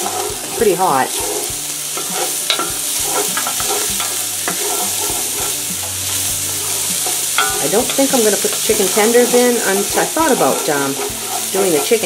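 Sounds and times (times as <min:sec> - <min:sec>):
vegetables sizzling in fat: 0:00.0 - 0:12.0
wooden spoon scraping a pot: 0:00.0 - 0:12.0.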